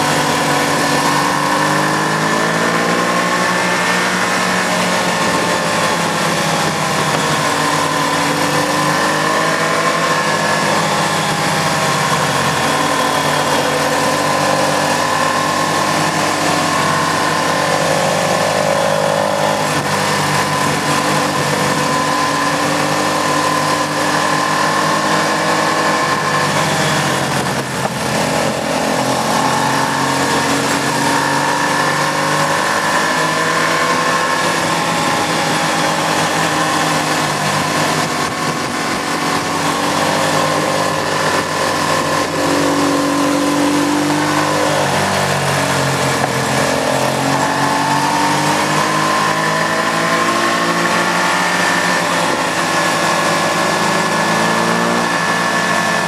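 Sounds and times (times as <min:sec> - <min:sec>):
wind noise: 0:00.0 - 0:53.2
motorcycle engine revving: 0:00.0 - 0:56.0.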